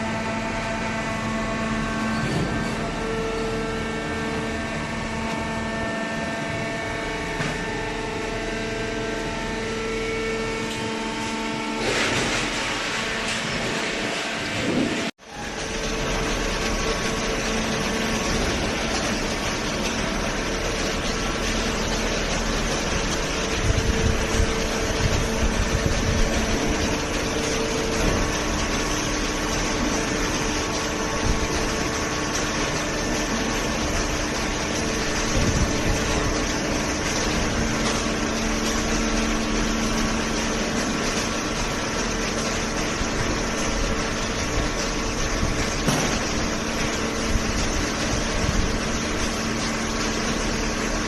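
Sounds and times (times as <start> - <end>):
hydraulic pump motor humming: 0.0 - 51.0.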